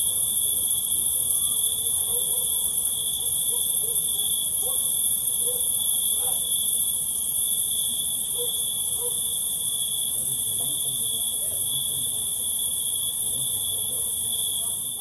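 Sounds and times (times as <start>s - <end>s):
crickets chirring: 0.0s - 15.0s
high insect hiss: 0.0s - 15.0s.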